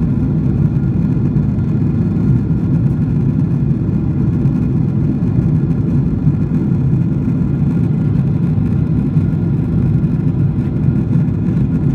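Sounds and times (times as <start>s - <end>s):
airliner cabin rumble: 0.0s - 11.9s.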